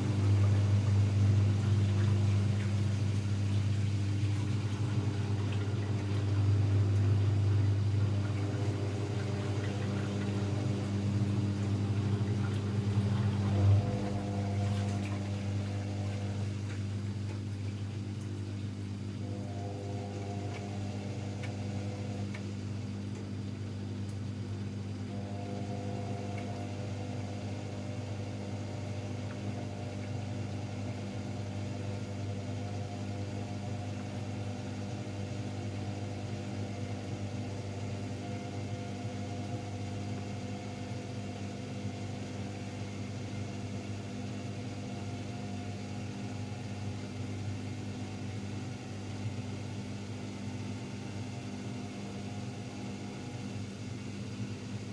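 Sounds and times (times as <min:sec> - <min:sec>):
washing machine motor hum: 0:00.0 - 0:54.9.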